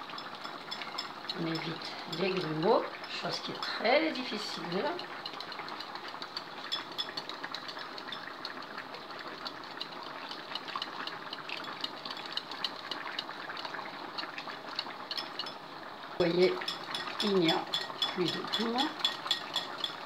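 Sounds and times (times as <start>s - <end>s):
whisk ticking against glass bowl: 0.0s - 20.0s.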